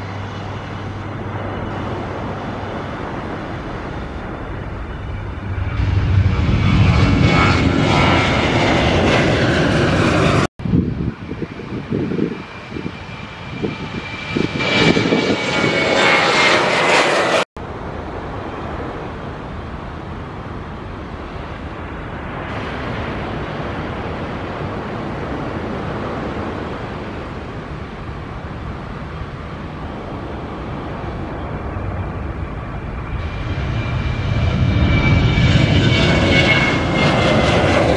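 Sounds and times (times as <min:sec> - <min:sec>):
airliner engines whining: 0:00.0 - 0:37.9
jet engine rumble: 0:00.0 - 0:37.9.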